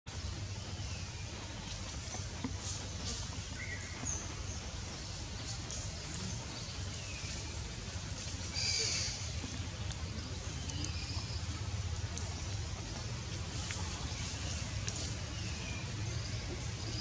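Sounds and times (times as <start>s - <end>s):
low hum and hiss: 0.1s - 17.0s
bird calls: 0.3s - 17.0s.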